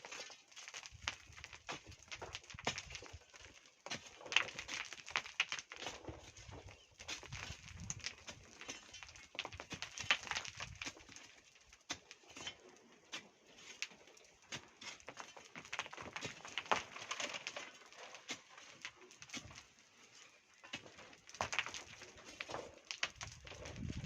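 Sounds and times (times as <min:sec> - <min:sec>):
hand tools scraping sand and stones: 0:00.0 - 0:24.0.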